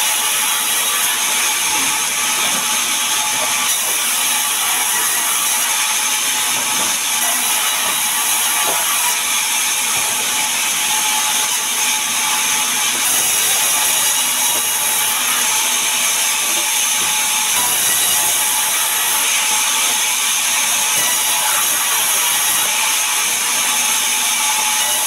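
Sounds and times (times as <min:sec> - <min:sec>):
band saw blade cutting wood: 0:00.0 - 0:25.0
saw motor running: 0:00.0 - 0:25.0.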